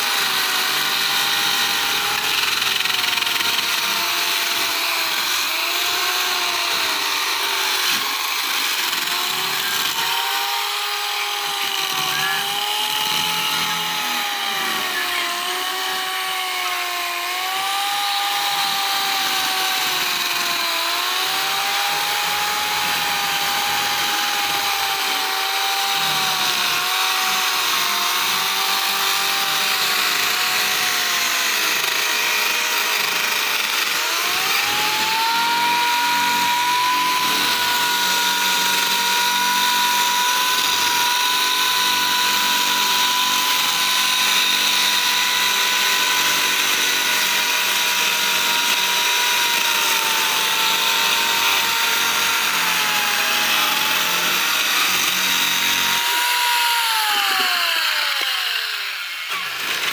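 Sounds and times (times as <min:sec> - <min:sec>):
power sanders whining against wood: 0:00.0 - 0:59.9.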